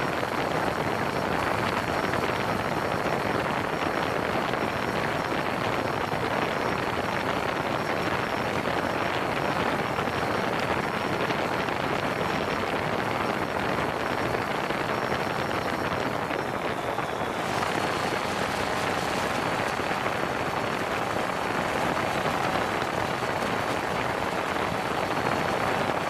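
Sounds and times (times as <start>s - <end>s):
drone rotor noise: 0.0s - 26.0s
faint high motor whine: 0.0s - 26.0s.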